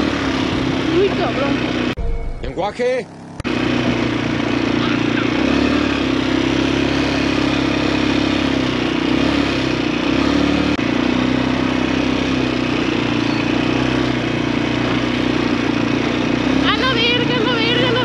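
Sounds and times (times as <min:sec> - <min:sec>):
quad bike engine running: 0:00.0 - 0:18.0.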